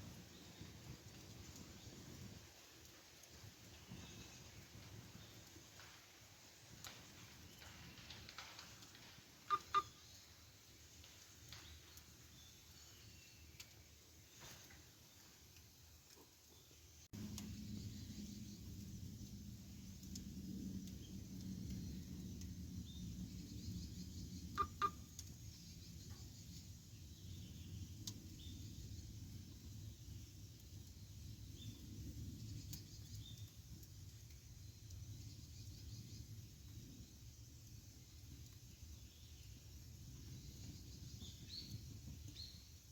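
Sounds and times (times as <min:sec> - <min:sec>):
campfire rumbling and crackling: 0:00.0 - 0:42.9.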